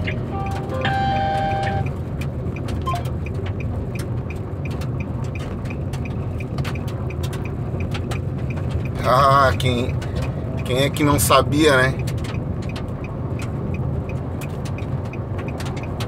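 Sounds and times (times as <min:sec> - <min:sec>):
car engine and tyre noise: 0:00.0 - 0:16.0
sharp ticks: 0:01.6 - 0:16.0.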